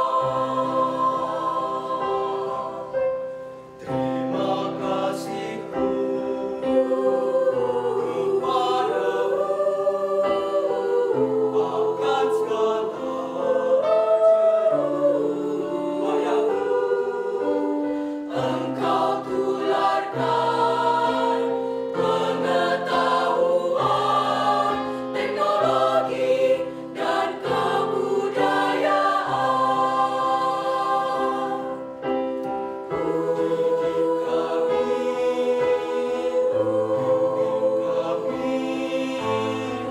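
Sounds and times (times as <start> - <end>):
choir singing in parts: 0.0 - 39.9.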